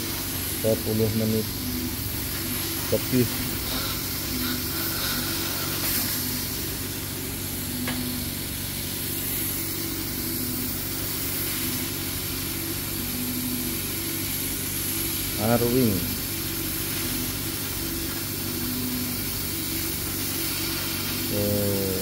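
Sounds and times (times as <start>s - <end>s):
laser cutter hum and hiss: 0.0s - 22.0s.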